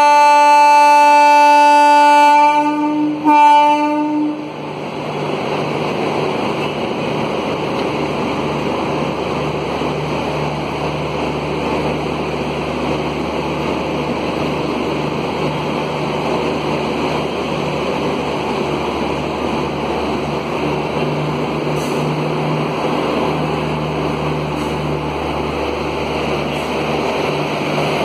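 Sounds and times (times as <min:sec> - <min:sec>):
electric locomotive whirring: 0:00.0 - 0:28.0.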